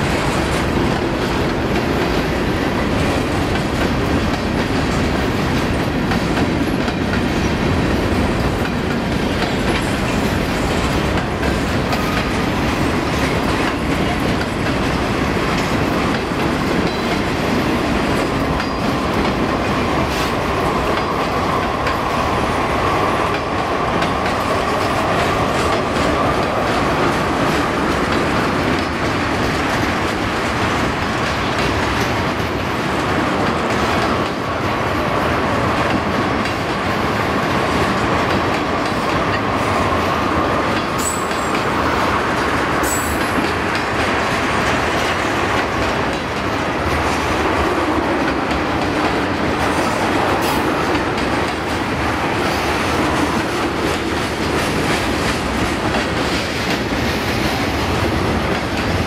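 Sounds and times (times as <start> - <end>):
train wheels clicking over rail joints: 0.0 - 59.0.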